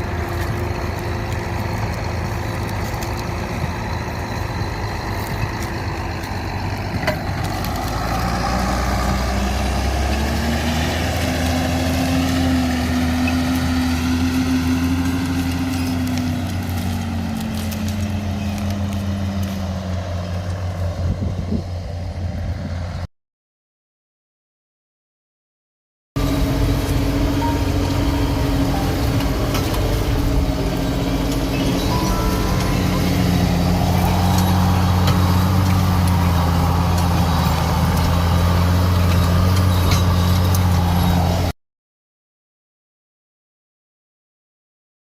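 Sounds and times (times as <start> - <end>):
tractor diesel engine running: 0.0 - 23.0, 26.2 - 41.5.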